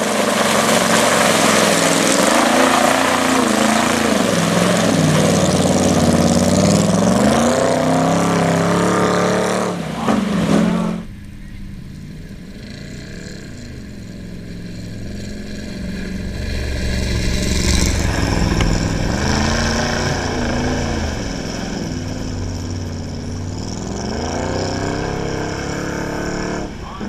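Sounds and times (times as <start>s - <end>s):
mud splashing from tyres: 0.0s - 27.0s
truck engine revving hard: 0.0s - 27.0s.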